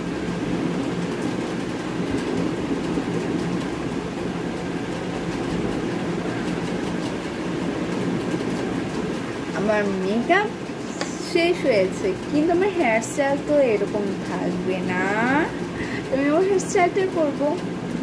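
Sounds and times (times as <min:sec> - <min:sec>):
fan humming and rushing: 0:00.0 - 0:18.0.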